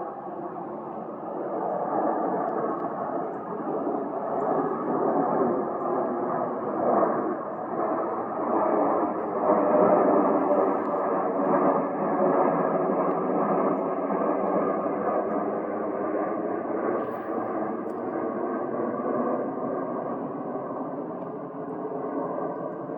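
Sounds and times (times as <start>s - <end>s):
jet engines rushing: 0.0s - 22.9s.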